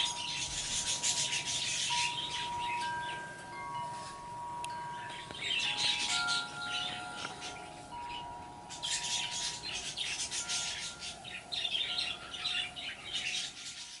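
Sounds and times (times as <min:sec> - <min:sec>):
birds squawking and chirping: 0:00.0 - 0:14.0
steady ringing tones: 0:00.0 - 0:14.0.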